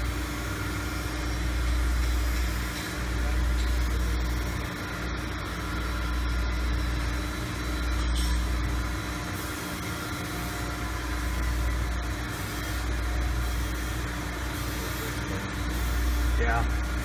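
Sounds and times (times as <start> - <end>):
low machinery hum: 0.0 - 17.0.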